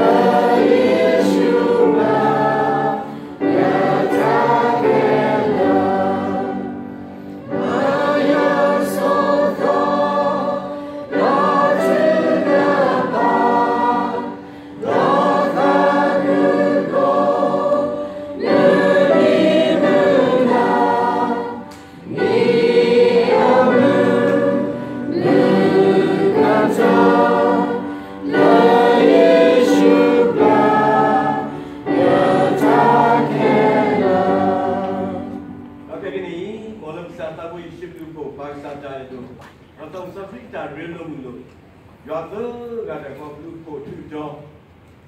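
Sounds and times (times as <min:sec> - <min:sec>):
congregation and choir singing hymn: 0:00.0 - 0:37.6.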